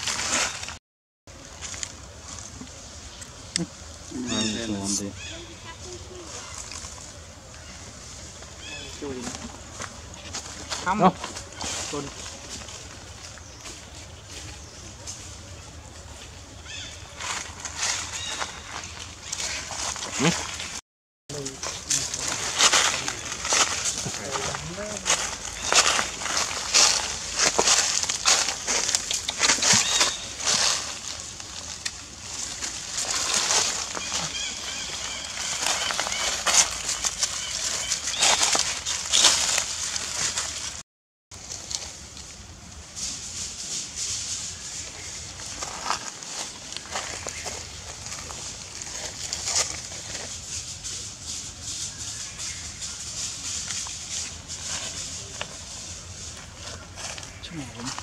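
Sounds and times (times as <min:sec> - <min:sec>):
dry leaves crackling and rustling: 0:00.0 - 0:58.0.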